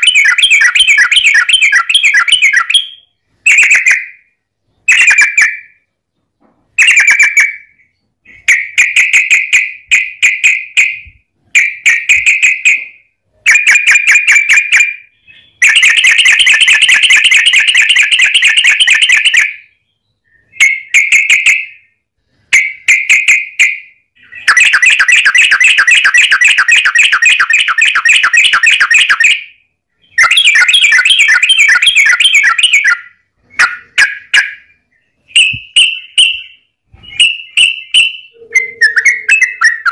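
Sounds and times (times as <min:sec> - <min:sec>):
bulbul chattering song: 0:00.0 - 0:05.8, 0:06.8 - 0:39.9.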